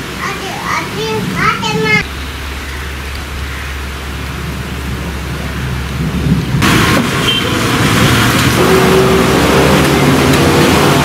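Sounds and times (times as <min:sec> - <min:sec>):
rain on a wet street: 0:00.0 - 0:11.0.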